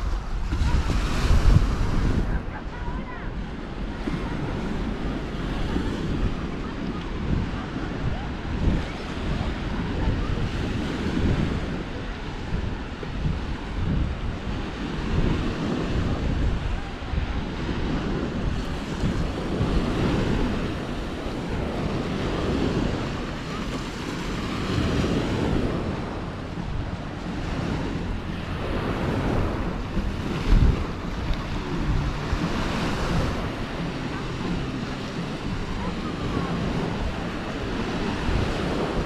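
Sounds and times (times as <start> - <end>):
sea waves washing onto beach: 0.0 - 39.0
wind buffeting microphone: 0.0 - 39.0.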